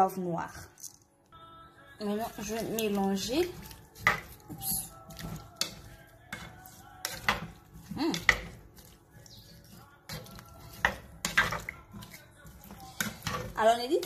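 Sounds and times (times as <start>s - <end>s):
spatula scraping pan: 2.1s - 14.0s.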